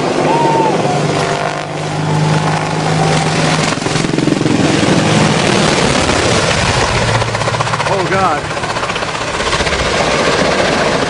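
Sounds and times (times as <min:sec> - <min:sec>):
helicopter flying by: 0:00.0 - 0:11.0.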